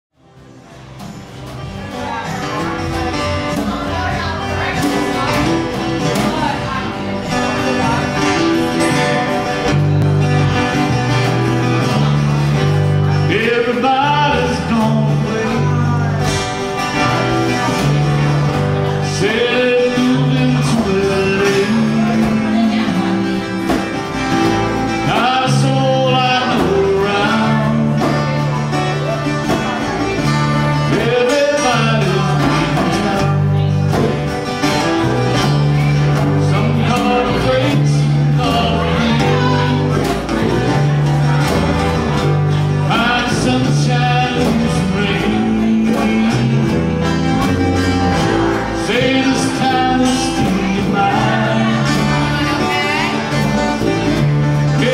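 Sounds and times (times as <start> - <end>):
electric bass guitar: 0.1 - 54.9
acoustic guitars strumming: 0.2 - 54.9
man singing: 10.5 - 54.9.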